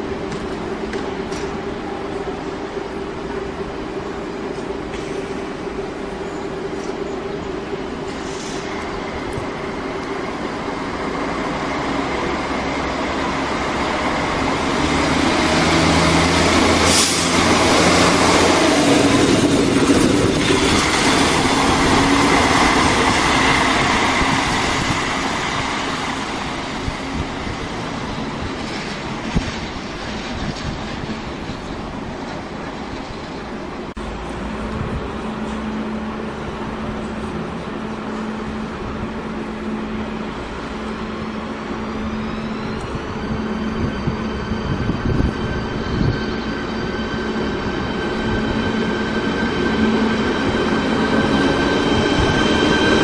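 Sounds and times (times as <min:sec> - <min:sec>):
diesel railbus passing: 0:00.0 - 0:53.0.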